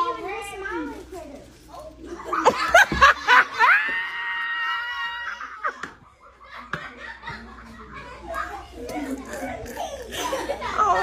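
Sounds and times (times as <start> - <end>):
children laughing and shrieking: 1.9 - 11.0.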